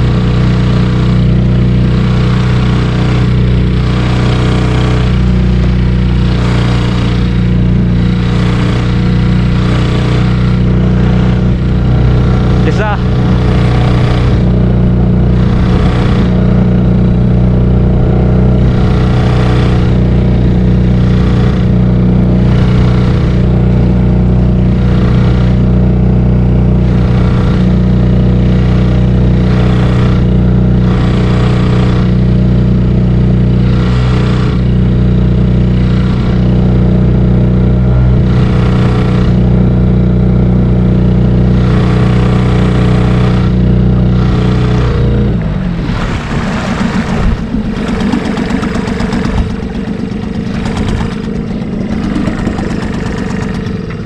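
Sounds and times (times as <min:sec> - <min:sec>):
rush of noise: 0:00.0 - 0:53.8
outboard motor running: 0:00.0 - 0:54.0.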